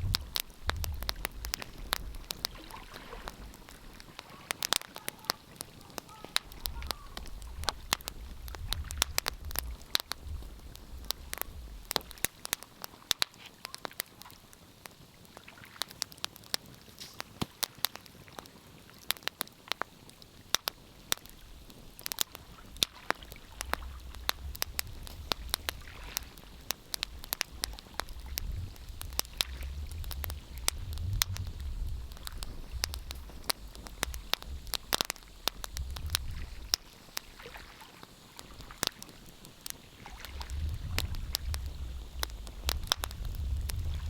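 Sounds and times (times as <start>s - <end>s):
fireplace fire crackling: 0.0s - 44.0s.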